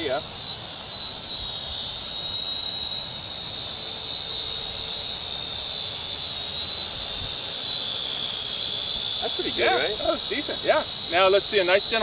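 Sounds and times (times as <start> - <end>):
toy drone whining: 0.0 - 12.0.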